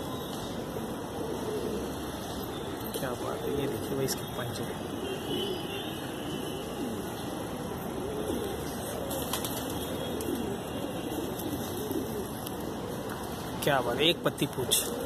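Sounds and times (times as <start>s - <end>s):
pigeons cooing: 0.0s - 4.0s, 4.9s - 15.0s.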